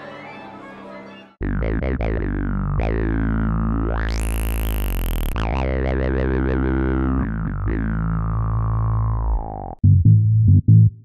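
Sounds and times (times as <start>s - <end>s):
wobbling synth bass: 1.4s - 11.0s.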